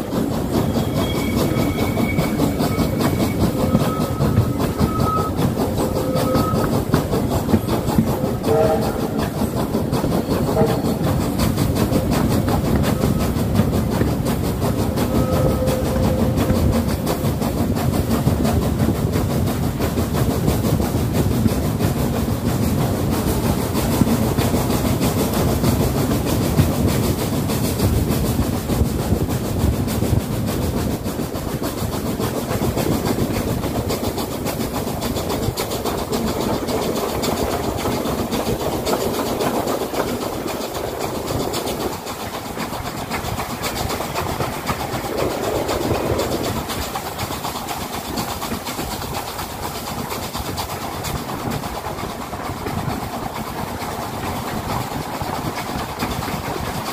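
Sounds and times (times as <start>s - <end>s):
train wheels on rails: 0.0s - 56.9s
wind rush: 0.0s - 56.9s.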